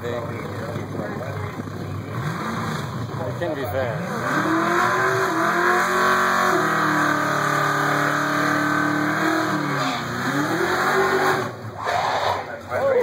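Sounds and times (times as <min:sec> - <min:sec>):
car engine revving high: 0:02.0 - 0:12.5.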